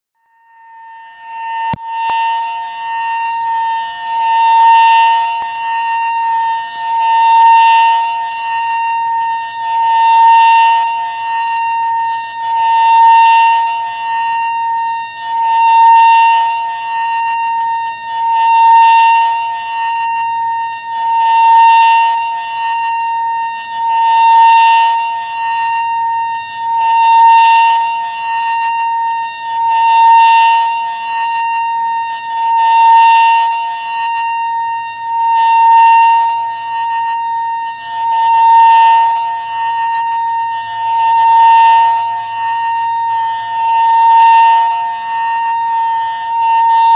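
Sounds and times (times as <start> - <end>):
siren steady tone: 0.2 - 46.9.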